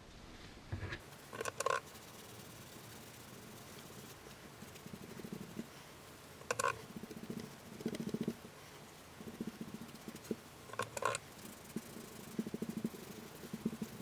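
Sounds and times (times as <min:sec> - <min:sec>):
rapid rubbing strokes on metal: 0:01.0 - 0:14.0.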